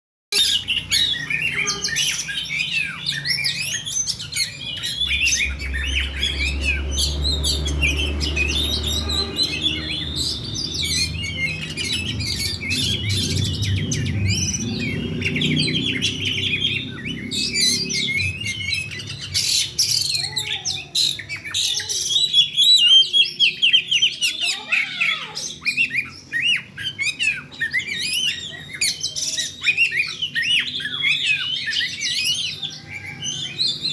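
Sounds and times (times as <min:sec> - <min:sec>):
bird singing: 0:00.3 - 0:33.9.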